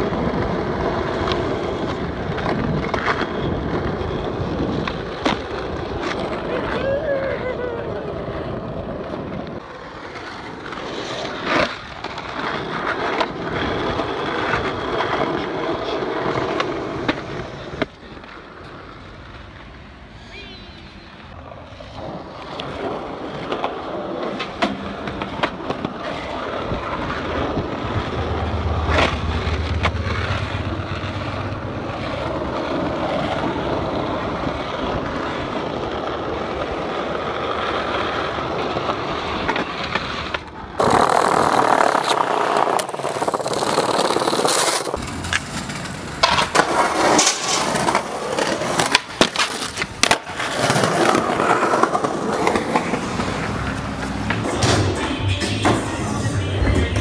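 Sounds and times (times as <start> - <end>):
skateboard tail clacks: 0.0 - 57.0
skateboard wheels rolling on asphalt: 0.0 - 57.0.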